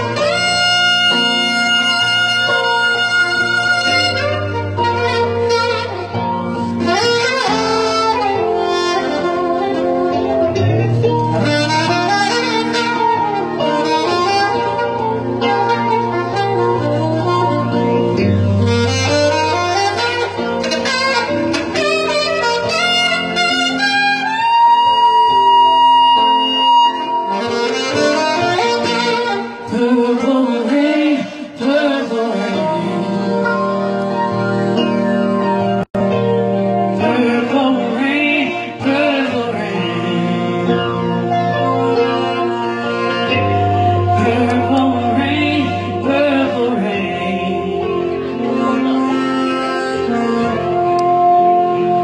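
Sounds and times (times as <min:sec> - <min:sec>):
bass and guitar: 0:00.0 - 0:52.0
live band chords: 0:00.0 - 0:52.0
saxophone melody: 0:00.0 - 0:52.0.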